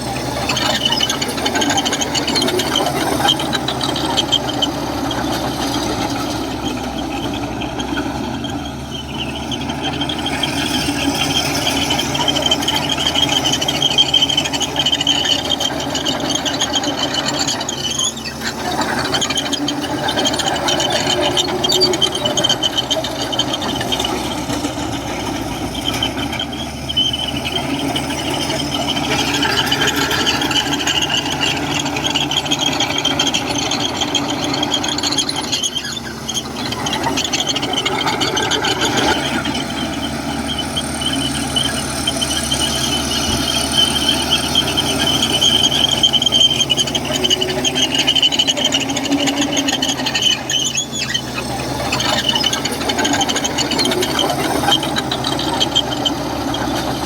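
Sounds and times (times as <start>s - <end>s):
bulldozer diesel engine running: 0.0s - 57.0s
steel tracks squealing: 0.0s - 57.0s.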